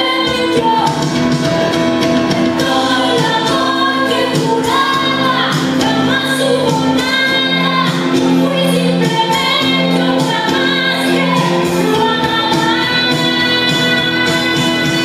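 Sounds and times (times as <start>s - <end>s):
woman singing a ballad: 0.0s - 1.0s, 2.6s - 15.0s
band backing: 0.0s - 15.0s.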